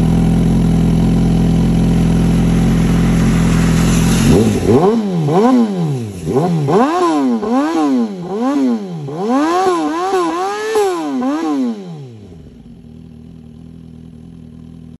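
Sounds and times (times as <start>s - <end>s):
motorcycle engine idling: 0.0s - 15.0s
motorcycle engine revving: 0.0s - 15.0s.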